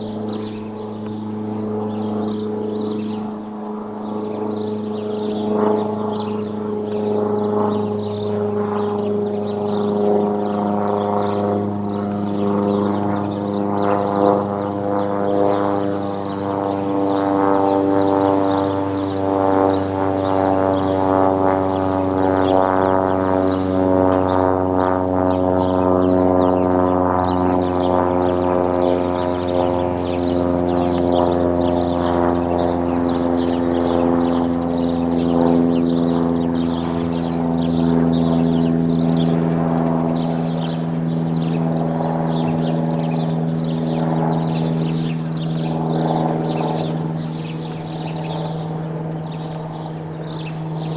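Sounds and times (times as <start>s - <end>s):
propeller plane droning overhead: 0.0s - 50.9s.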